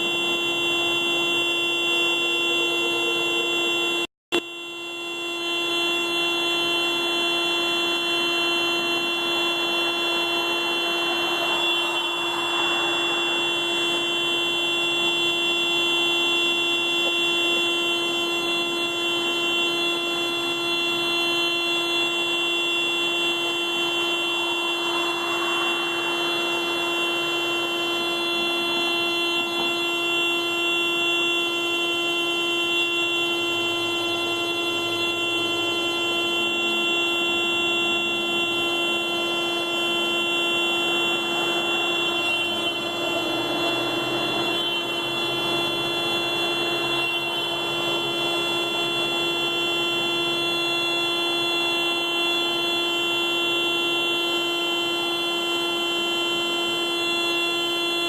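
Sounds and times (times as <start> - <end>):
car alarm steady horn tone: 0.0 - 58.0.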